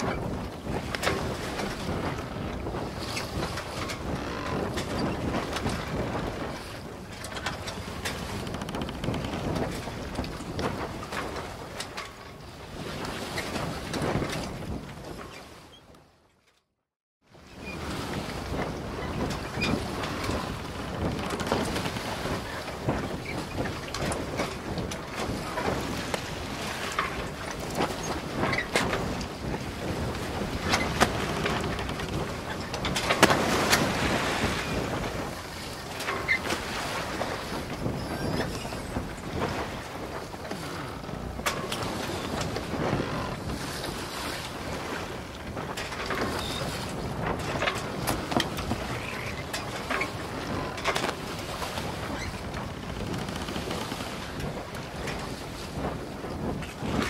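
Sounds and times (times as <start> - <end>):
wind on microphone: 0.0 - 16.1, 17.2 - 57.0.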